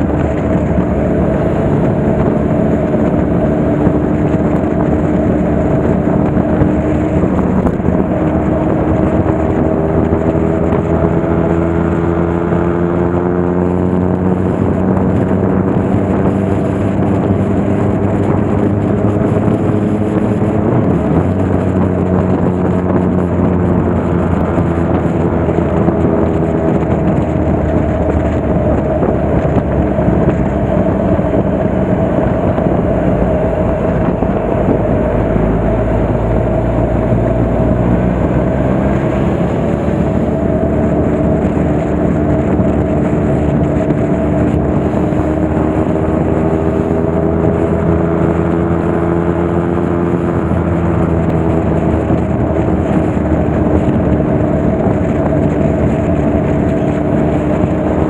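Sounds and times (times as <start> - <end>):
motorcycle engine running: 0.0 - 58.0
steady rushing noise: 0.0 - 58.0.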